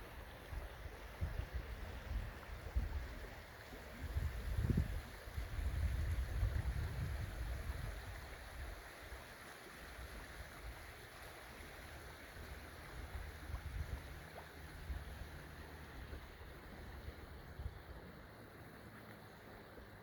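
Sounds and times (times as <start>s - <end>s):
faint outdoor rush: 0.0s - 20.0s
wind rumbling on microphone: 0.5s - 8.8s, 12.2s - 20.0s.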